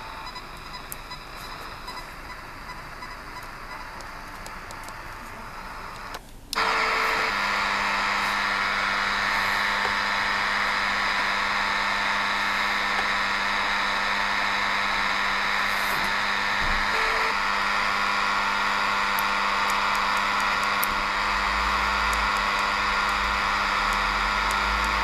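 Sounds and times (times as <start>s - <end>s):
radio buzzing with low hum: 0.0s - 25.0s
radio receiver hiss: 0.0s - 25.0s.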